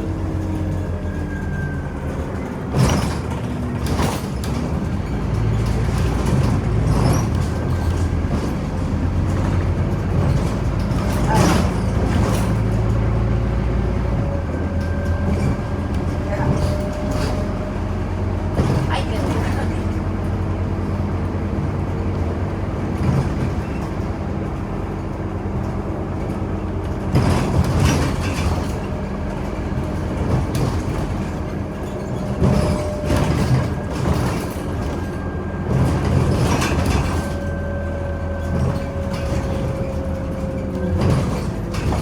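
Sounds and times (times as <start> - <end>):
bus engine hum: 0.0 - 42.0.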